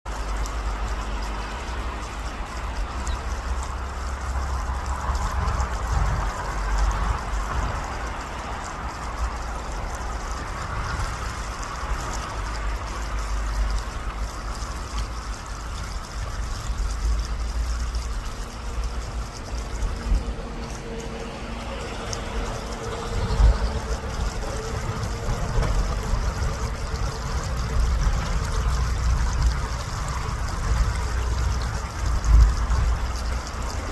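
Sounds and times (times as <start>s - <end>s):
stream of water trickling: 0.0s - 33.9s
wind rumble: 0.2s - 33.9s.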